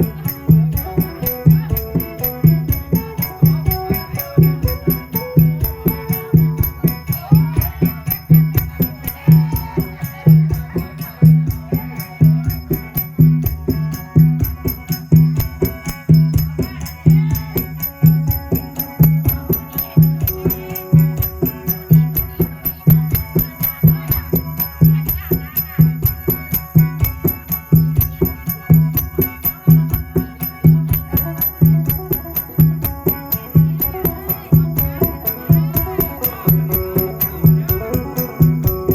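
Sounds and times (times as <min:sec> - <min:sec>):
plucked lute over a drone: 0:00.0 - 0:38.9
shaker-like percussion: 0:00.0 - 0:38.9.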